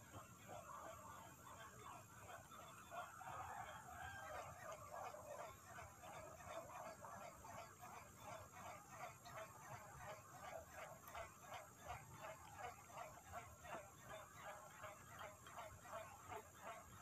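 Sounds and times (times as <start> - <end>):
distant chorus of animal calls: 0.0 - 17.0.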